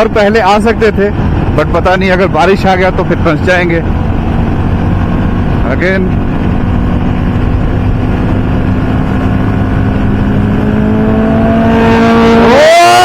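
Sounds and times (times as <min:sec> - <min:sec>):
motorcycle accelerating: 0:00.0 - 0:13.0
motorcycle engines: 0:00.0 - 0:13.0
wind noise: 0:00.0 - 0:13.0.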